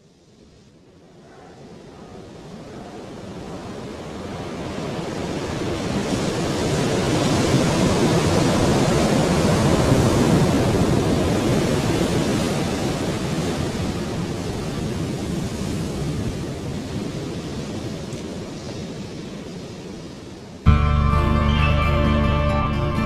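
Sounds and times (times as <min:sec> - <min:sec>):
surf-like rushing noise: 0:00.0 - 0:20.7.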